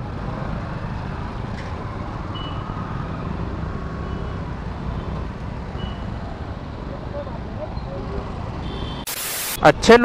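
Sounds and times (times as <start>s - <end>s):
motorcycle engines rumbling: 0.0s - 8.9s.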